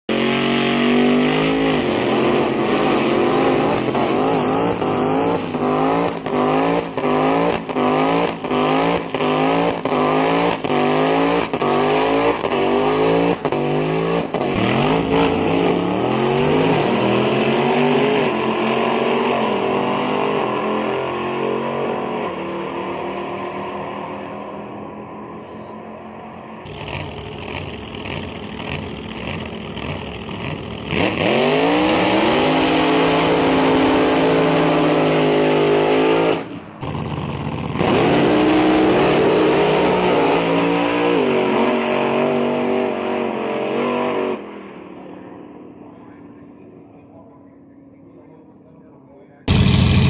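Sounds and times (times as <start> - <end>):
race car engine revving: 0.1 - 25.0, 26.7 - 44.4, 49.5 - 50.0.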